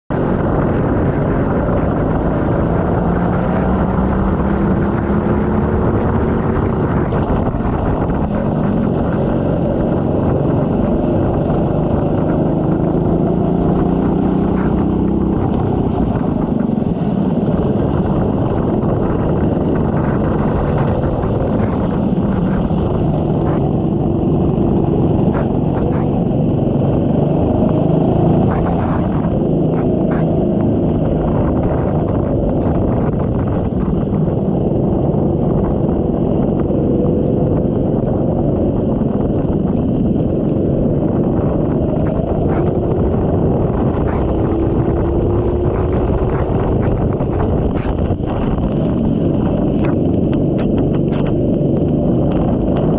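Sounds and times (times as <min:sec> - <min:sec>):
racing kart engine: 0:00.1 - 0:52.9.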